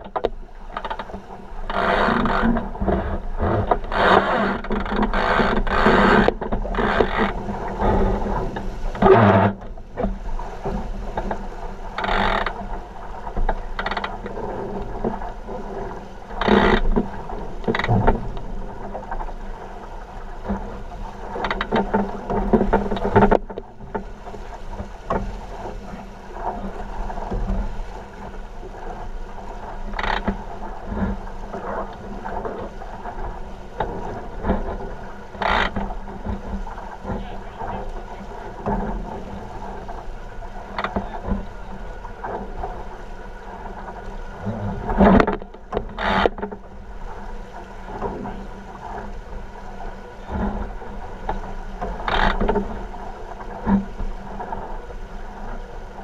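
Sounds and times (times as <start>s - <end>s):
hull slapping waves: 0.0s - 56.0s
rushing water: 0.0s - 56.0s
wind: 0.0s - 56.0s.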